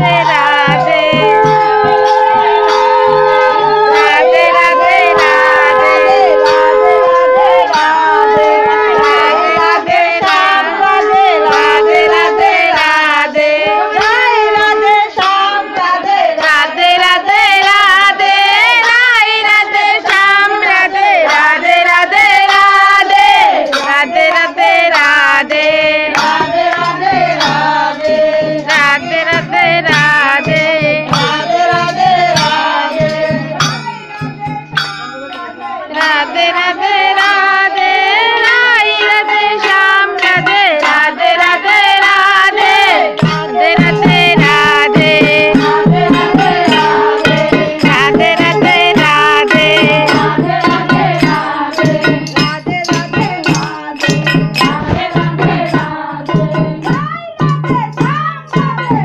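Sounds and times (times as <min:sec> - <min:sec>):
women singing a devotional chant: 0:00.0 - 0:34.9, 0:35.7 - 0:59.0.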